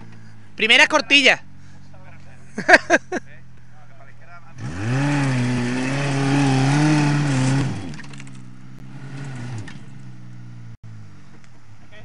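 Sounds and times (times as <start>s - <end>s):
off-road vehicle engine revving: 0.0s - 11.9s.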